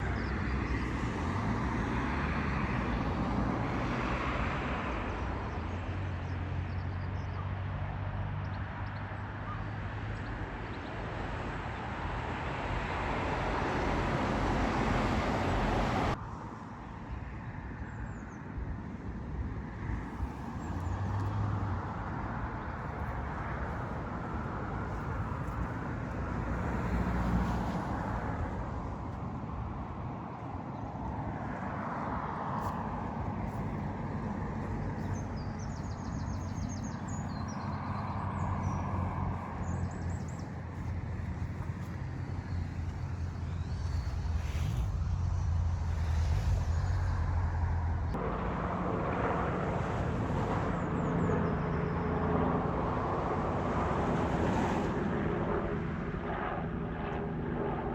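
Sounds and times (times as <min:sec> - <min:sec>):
road traffic passing: 0:00.0 - 0:57.9.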